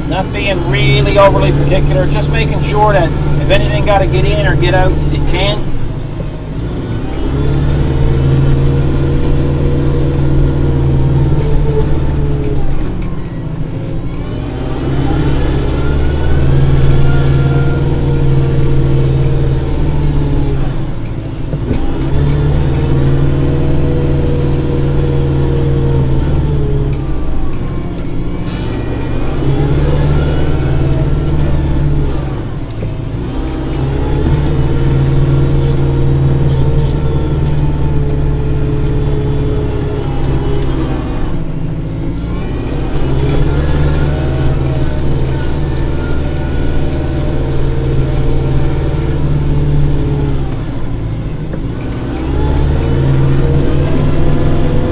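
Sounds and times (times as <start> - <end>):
snowblower: 0.0 - 6.1, 6.8 - 54.9
diesel tractor engine running: 0.0 - 54.9.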